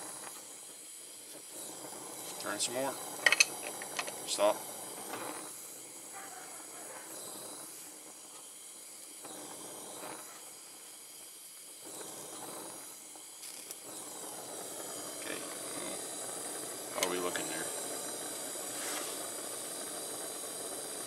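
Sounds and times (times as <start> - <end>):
torch flame hissing: 0.0 - 21.0.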